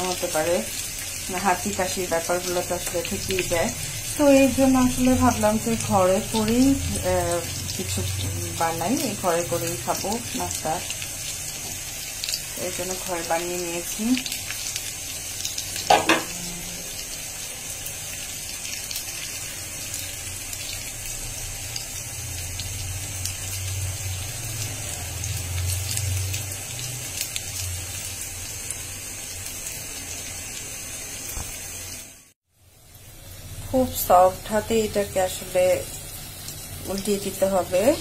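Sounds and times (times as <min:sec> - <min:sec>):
oil sizzling in a pan: 0:00.0 - 0:38.0.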